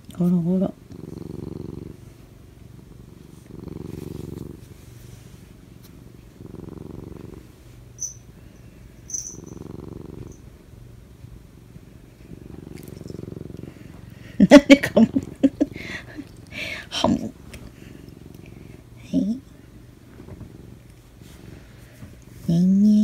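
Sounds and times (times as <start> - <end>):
cat purring: 0.1 - 23.0.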